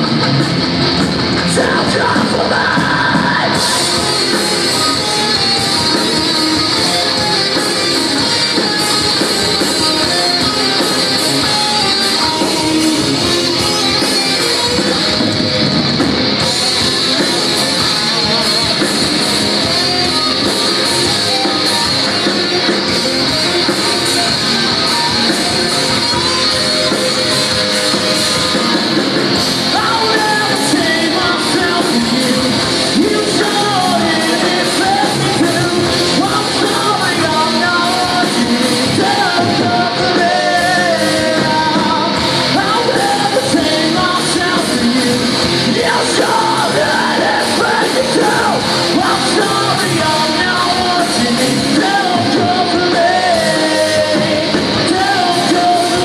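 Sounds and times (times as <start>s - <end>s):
bass guitar: 0.0s - 56.0s
drums: 0.0s - 56.0s
electric guitars: 0.0s - 56.0s
person singing: 1.4s - 15.6s, 16.4s - 56.0s.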